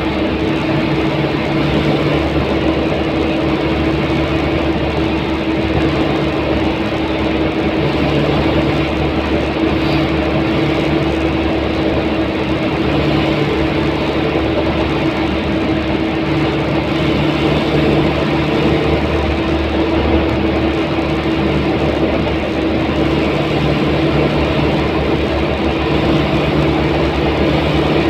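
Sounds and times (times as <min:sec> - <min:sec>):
engine drone: 0:00.0 - 0:28.0
steady humming tone: 0:00.0 - 0:28.0.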